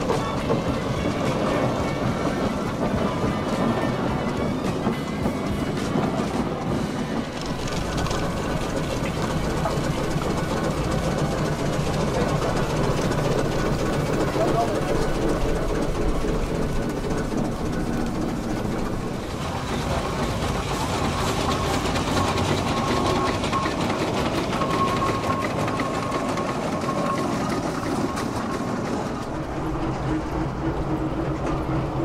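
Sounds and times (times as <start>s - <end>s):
steam traction engine clattering: 0.0s - 32.0s.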